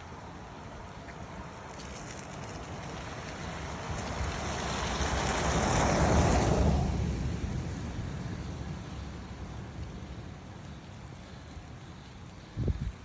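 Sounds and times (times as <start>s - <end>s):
vehicle passing on wet road: 0.0s - 12.6s.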